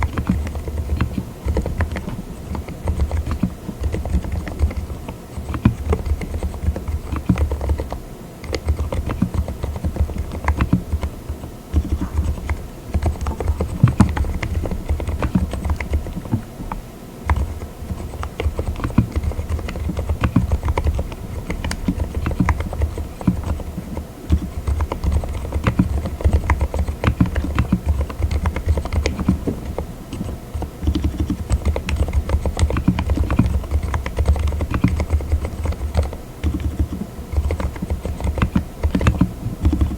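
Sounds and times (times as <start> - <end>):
muted mechanical keyboard typing: 0.0 - 39.9.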